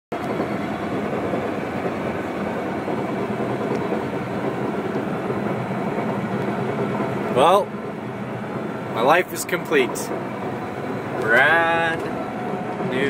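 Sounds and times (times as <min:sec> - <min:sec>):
bulldozer diesel engine running: 0:00.1 - 0:13.0.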